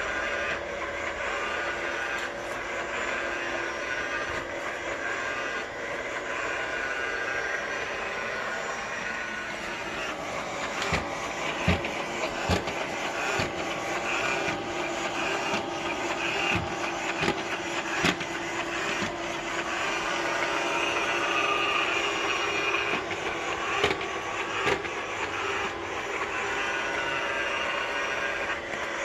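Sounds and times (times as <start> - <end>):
robot vacuum motor whir: 0.0 - 29.0.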